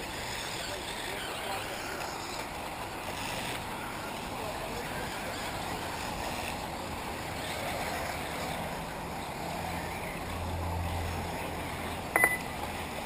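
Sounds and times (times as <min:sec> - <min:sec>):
rc cars running: 0:00.0 - 0:13.0.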